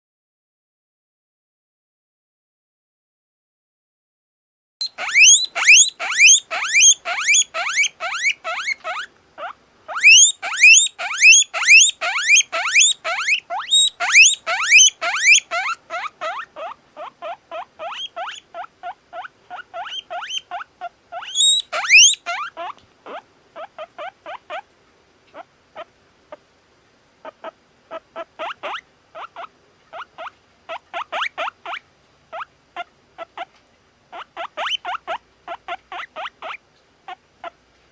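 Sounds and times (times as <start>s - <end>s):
guinea pig wheeking: 4.8s - 24.7s, 25.3s - 26.4s, 27.2s - 37.6s.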